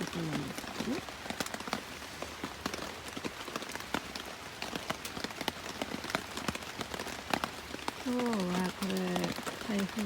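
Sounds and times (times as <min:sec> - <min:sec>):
light rain hiss: 0:00.0 - 0:10.0
raindrops ticking on a surface: 0:00.0 - 0:10.0.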